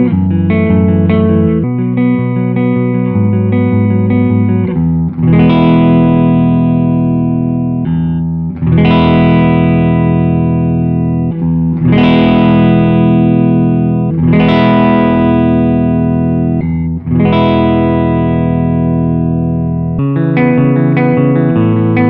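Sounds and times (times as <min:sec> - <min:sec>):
electric guitar strummed chords: 0:00.0 - 0:22.0.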